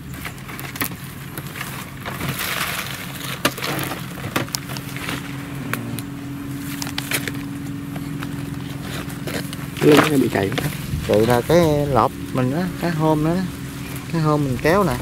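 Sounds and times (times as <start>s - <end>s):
dry straw rustling: 0.0s - 15.0s
low engine hum: 0.0s - 15.0s.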